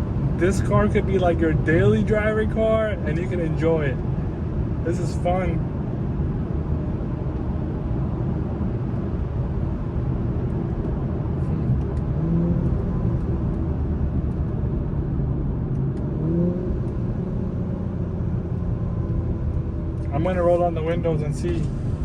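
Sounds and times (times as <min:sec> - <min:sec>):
road and engine rumble in car: 0:00.0 - 0:22.0.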